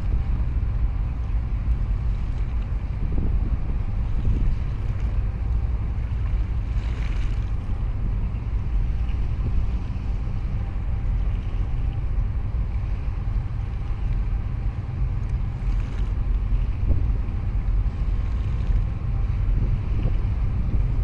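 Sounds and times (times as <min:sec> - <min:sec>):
boat engine rumble: 0:00.0 - 0:21.0
wind buffeting microphone: 0:00.0 - 0:21.0.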